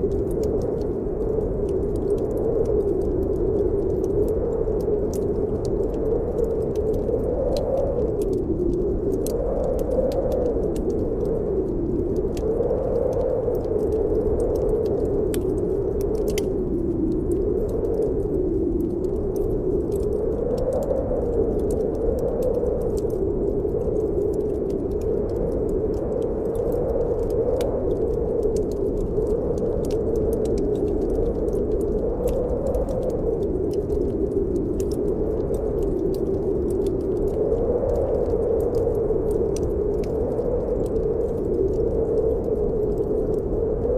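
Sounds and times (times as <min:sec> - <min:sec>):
fire crackling in fireplace: 0:00.0 - 0:43.9
wind howling: 0:00.0 - 0:43.9.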